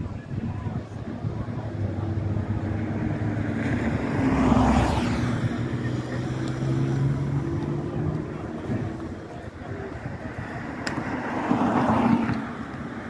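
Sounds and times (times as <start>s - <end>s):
traffic engines running: 0.0s - 13.0s
vehicle passing close: 1.1s - 13.0s.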